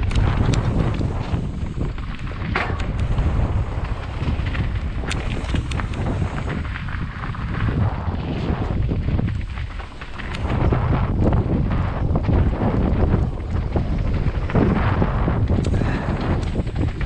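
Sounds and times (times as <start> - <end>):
bike clicks and knocks: 0.0 - 7.6, 8.5 - 17.0
tyres rumbling on dirt trail: 0.0 - 17.0
wind buffeting microphone: 0.0 - 17.0.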